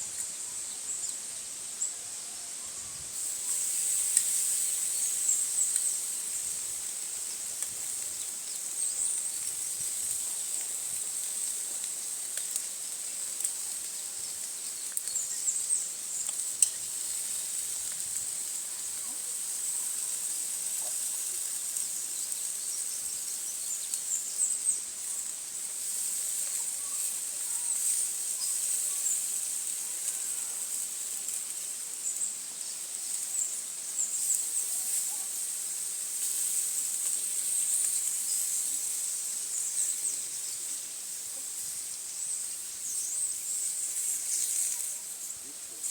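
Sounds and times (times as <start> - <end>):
insects trilling: 0.0 - 45.9
faint chirps: 0.1 - 45.9.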